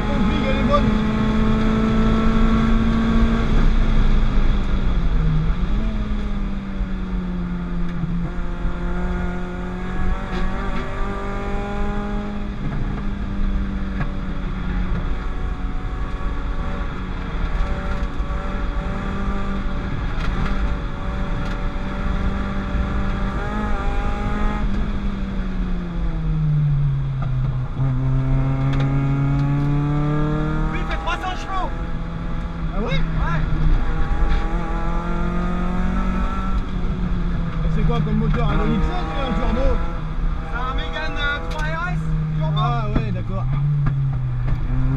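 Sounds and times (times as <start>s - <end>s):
car engine running hard: 0.0s - 44.9s.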